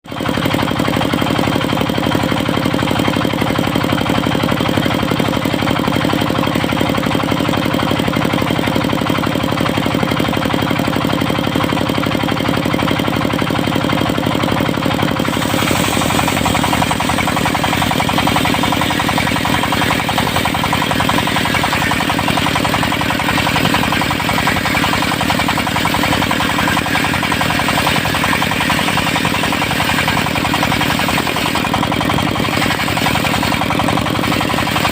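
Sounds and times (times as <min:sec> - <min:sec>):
diesel engine of a sawmill: 0:00.0 - 0:34.9.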